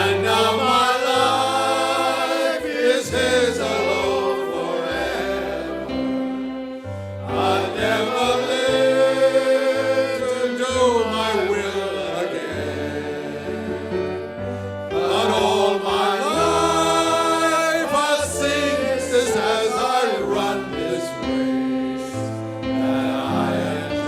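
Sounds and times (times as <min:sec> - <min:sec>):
voices singing a hymn: 0:00.0 - 0:24.0.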